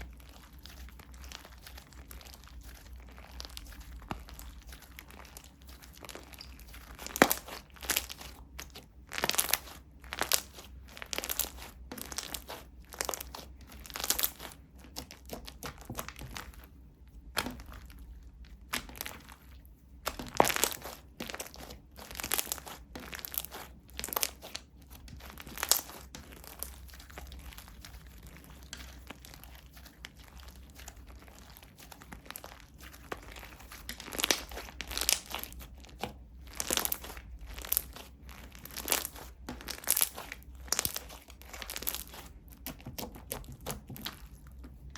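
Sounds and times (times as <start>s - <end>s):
slime crackling and popping: 0.0s - 44.9s.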